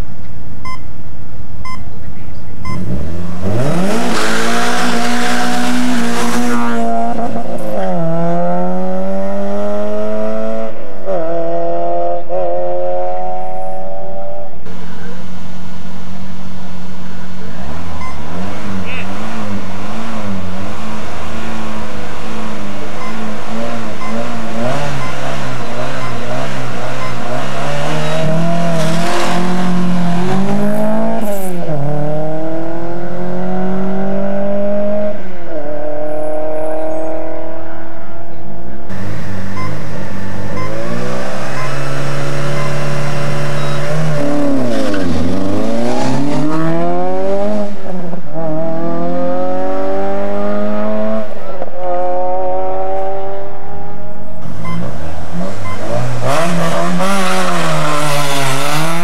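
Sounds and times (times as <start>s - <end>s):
rally car engine revving: 0.0s - 59.0s
second rally car engine: 0.0s - 59.0s.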